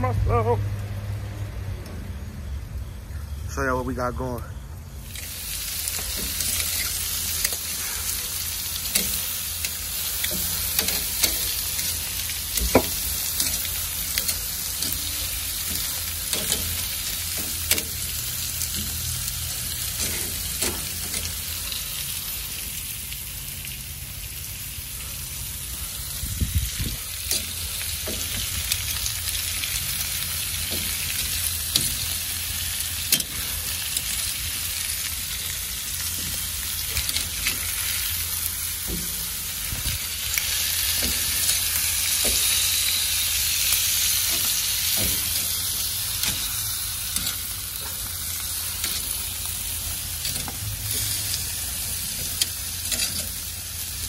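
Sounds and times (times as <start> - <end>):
meat sizzling on a grill: 4.8 - 54.0.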